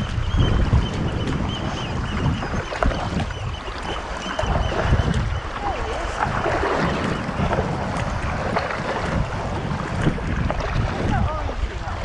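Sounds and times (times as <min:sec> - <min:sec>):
paddle splashing water: 0:00.0 - 0:12.0
wind buffeting microphone: 0:00.0 - 0:12.0.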